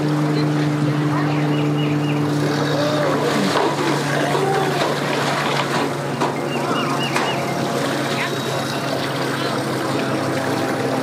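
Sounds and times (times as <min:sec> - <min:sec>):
churning water: 0:00.0 - 0:11.0
outboard motor running: 0:00.0 - 0:11.0.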